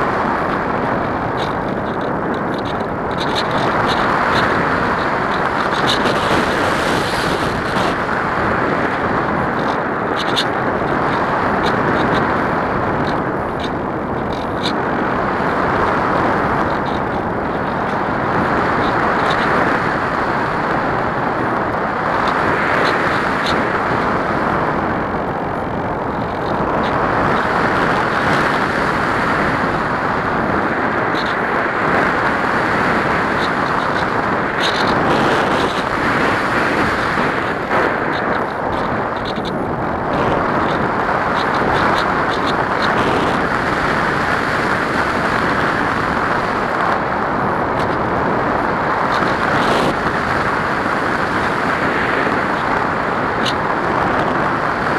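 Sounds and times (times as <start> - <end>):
air rushing over camera: 0.0 - 54.9.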